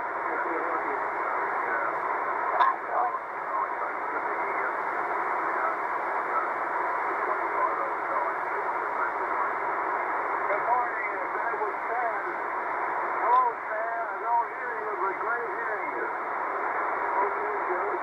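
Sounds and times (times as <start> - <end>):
radio hiss and static: 0.0 - 18.0.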